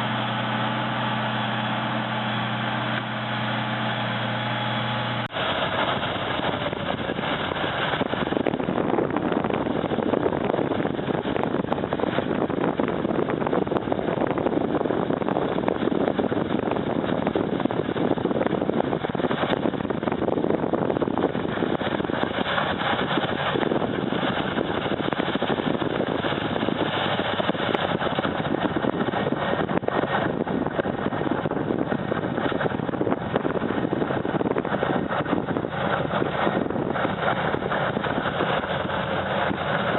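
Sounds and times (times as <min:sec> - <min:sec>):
snow-clearing machine rushing: 0:00.0 - 0:39.9.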